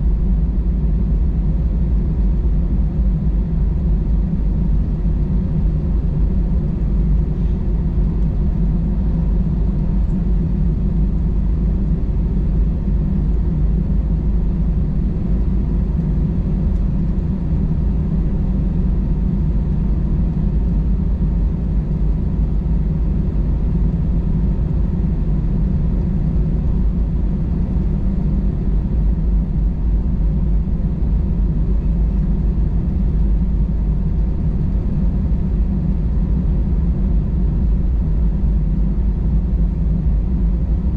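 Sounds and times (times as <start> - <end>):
airliner engines rumbling in cabin: 0.0 - 40.9.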